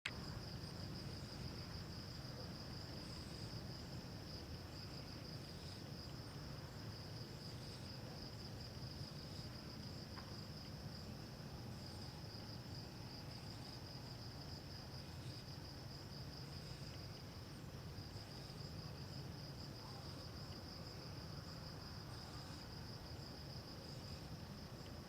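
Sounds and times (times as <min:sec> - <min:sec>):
crickets trilling: 0:00.1 - 0:25.0.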